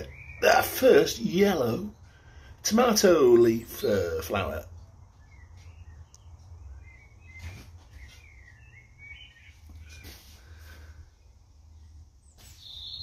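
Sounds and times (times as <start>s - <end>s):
faint birds singing: 0.0s - 13.0s.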